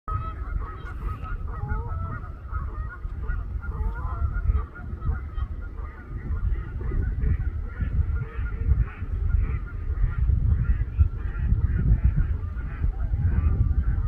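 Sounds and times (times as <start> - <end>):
steady low rumble: 0.1 - 14.0
swans honking: 0.1 - 14.0.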